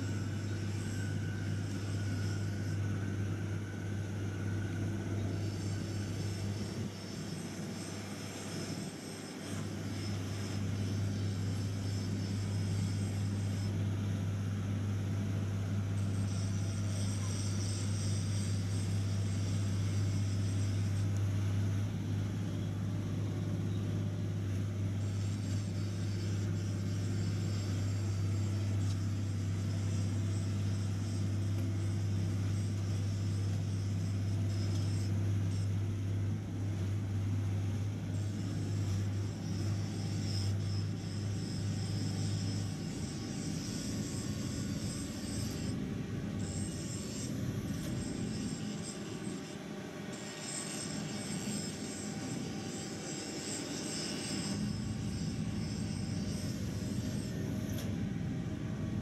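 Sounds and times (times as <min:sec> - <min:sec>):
diesel boat engines droning: 0:00.0 - 0:59.0.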